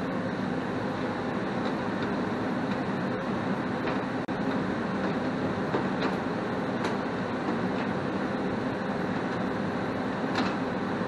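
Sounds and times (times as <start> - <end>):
furnace blower humming: 0.0 - 11.0.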